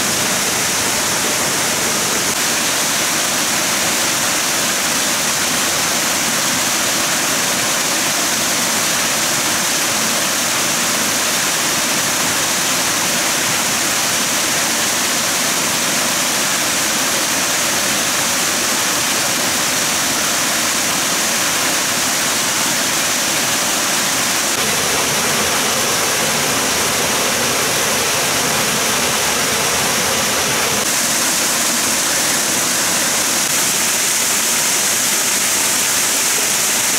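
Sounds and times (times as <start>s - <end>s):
loud rush of flowing water: 0.0s - 36.9s.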